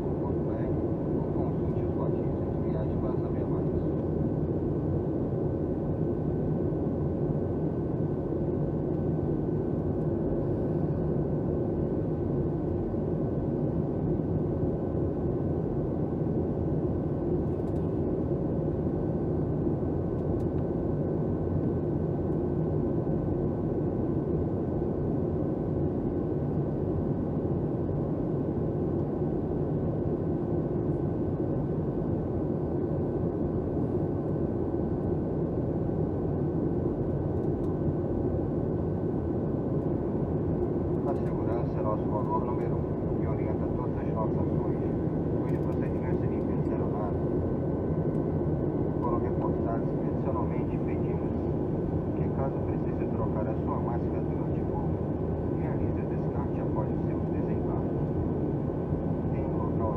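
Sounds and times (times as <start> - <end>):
airplane cabin rumble: 0.0 - 59.9
faint steady whine: 0.0 - 59.9.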